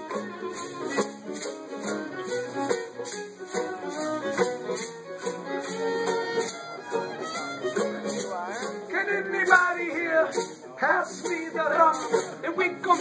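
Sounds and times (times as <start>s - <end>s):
banjo: 0.0s - 13.0s
fiddle: 0.0s - 13.0s
strummed acoustic guitars: 0.0s - 13.0s
ukulele: 0.0s - 13.0s.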